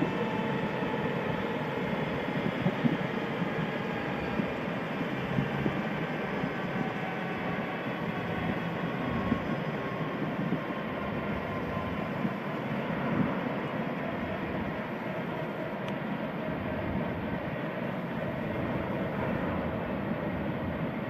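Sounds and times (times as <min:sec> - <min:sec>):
faint turbine whine: 0:00.0 - 0:21.0
helicopter engine and rotor noise: 0:00.0 - 0:21.0.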